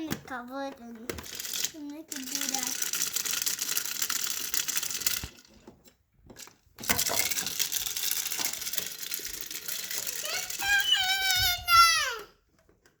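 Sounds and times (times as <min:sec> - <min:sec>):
toy coffee maker rattling: 0:00.0 - 0:13.0.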